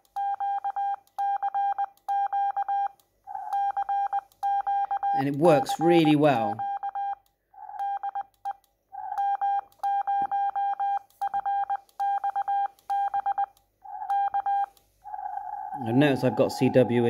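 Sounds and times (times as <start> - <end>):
morse code tone: 0.2 - 7.2, 9.2 - 17.0.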